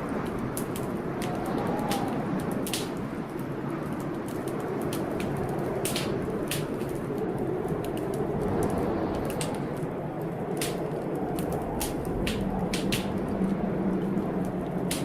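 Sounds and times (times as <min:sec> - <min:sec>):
stormy rain rushing: 0:00.0 - 0:15.0
wood fire crackling: 0:00.0 - 0:15.0.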